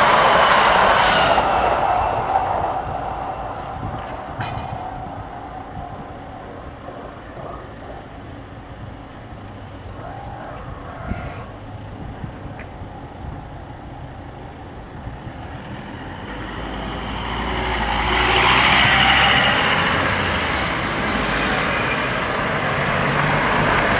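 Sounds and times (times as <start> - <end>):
car driving past: 0.0 - 14.5, 15.3 - 23.9.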